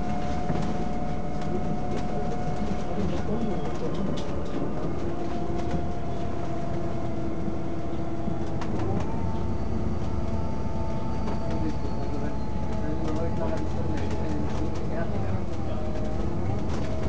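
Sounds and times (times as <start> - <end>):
bus engine drone with whine: 0.0 - 17.0
rattles from bus body: 0.0 - 17.0.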